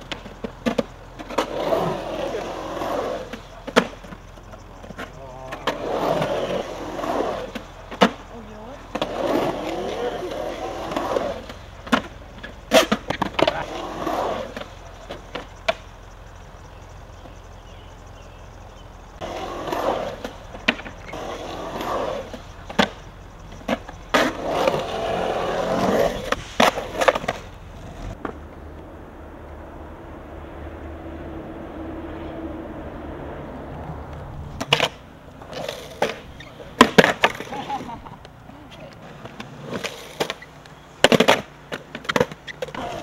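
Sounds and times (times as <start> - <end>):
loose skateboard clattering: 0.0 - 16.0, 19.2 - 28.8, 33.7 - 43.0
skateboard clacking on concrete: 0.0 - 16.0, 19.2 - 28.9, 33.7 - 43.0
skateboard wheels rolling on concrete: 0.0 - 43.0.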